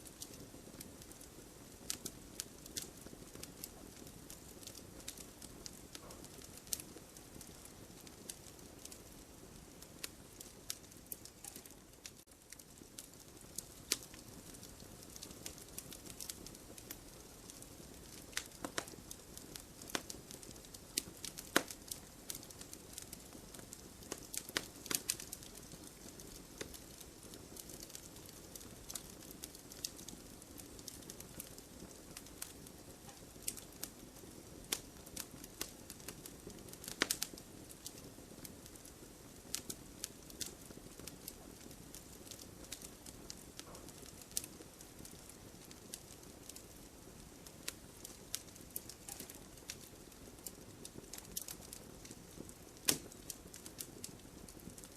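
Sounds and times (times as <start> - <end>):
bonfire crackling: 0.0 - 54.9.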